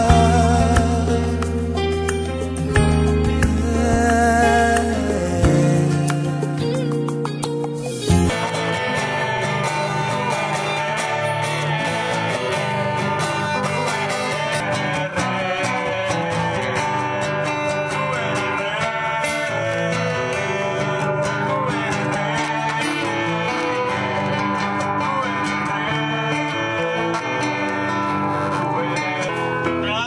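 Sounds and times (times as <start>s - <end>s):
acoustic guitars strummed: 0.0s - 30.0s.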